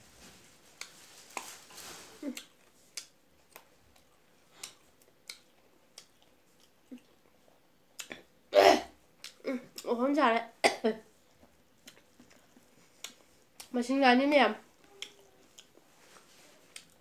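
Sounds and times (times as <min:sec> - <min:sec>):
person chewing food: 0:00.6 - 0:10.0, 0:11.1 - 0:13.7, 0:14.7 - 0:17.0.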